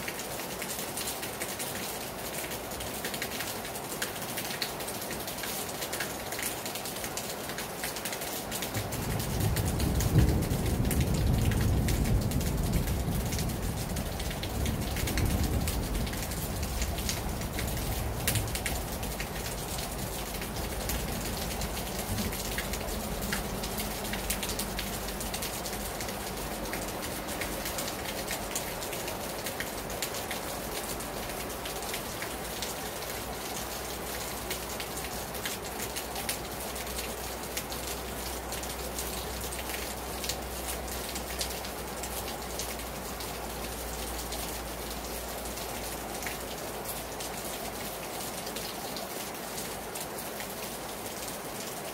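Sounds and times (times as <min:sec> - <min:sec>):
rain falling on a terrace: 0:00.0 - 0:51.9.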